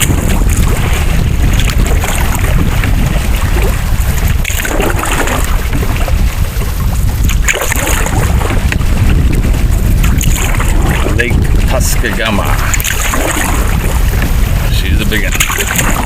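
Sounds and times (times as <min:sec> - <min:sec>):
water around canoe: 0:00.0 - 0:16.0
wind buffeting microphone: 0:00.0 - 0:16.0.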